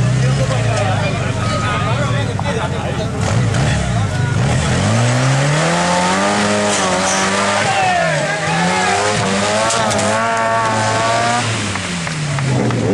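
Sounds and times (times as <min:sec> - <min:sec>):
off-road vehicle engine revving: 0:00.0 - 0:12.9.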